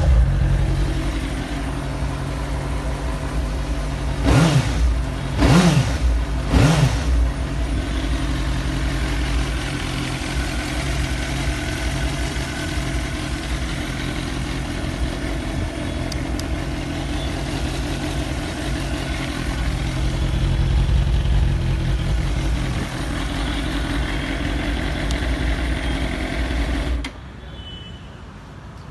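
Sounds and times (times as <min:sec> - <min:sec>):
motorcycle engine revving and idling: 0:00.0 - 0:27.2.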